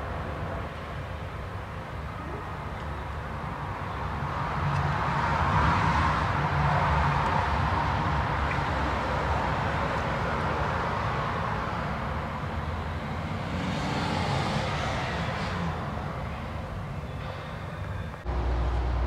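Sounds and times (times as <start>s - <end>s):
road traffic rush: 0.0s - 19.0s.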